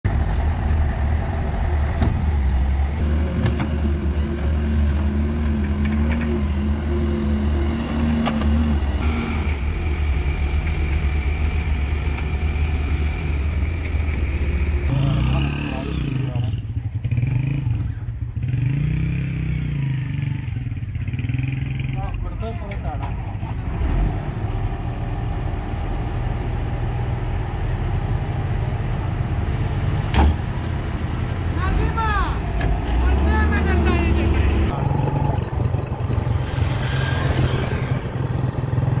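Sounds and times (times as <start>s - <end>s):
diesel engine rumbling: 0.0s - 39.0s.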